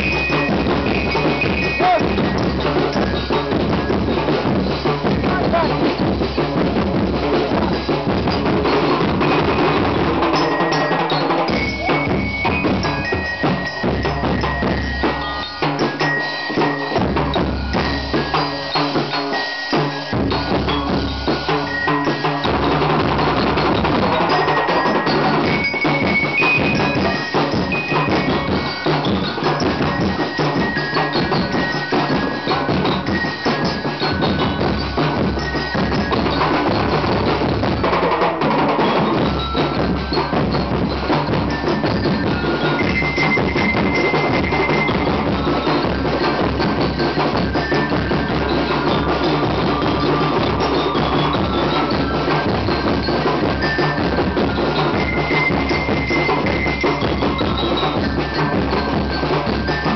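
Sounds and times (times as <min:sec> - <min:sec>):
bass drum: 0:00.0 - 0:16.1, 0:20.1 - 0:59.9
bell lyres ringing: 0:00.0 - 0:59.9
snare drum: 0:00.0 - 0:59.9.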